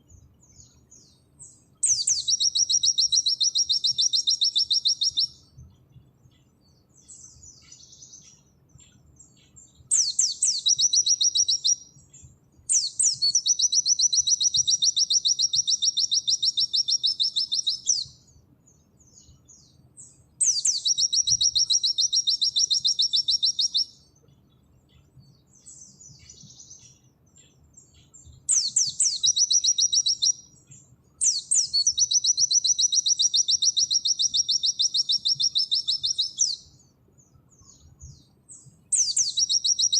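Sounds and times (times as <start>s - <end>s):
bird singing fast trills: 0.0s - 39.9s
soft bird twitters: 0.0s - 39.9s.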